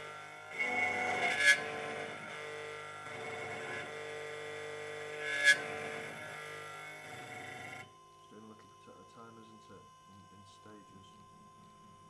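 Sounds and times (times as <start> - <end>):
key cutting machine whine: 0.0 - 12.0.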